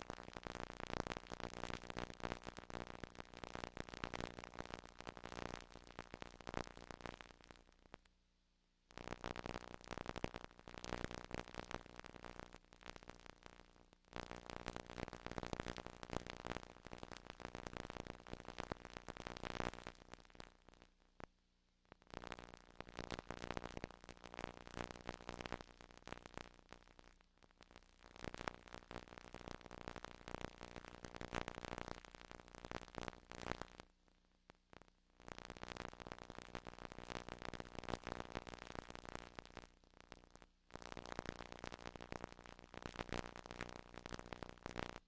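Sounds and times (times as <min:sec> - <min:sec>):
crackling static: 0:00.0 - 0:45.0.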